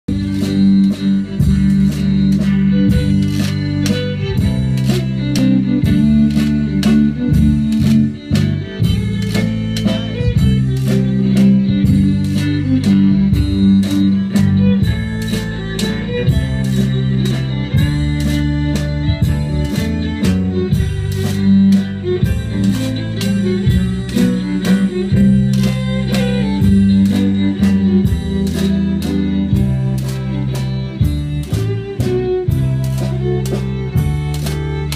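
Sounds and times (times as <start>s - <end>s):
accordion: 0.0s - 34.9s
drum kit beat: 0.0s - 34.9s
fiddle: 0.0s - 34.9s
guitars: 0.0s - 34.9s
strong bass notes: 0.0s - 34.9s.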